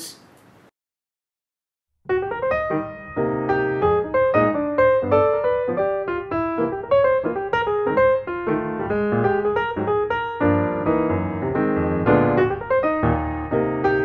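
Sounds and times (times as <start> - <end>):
background piano music: 2.1 - 14.0.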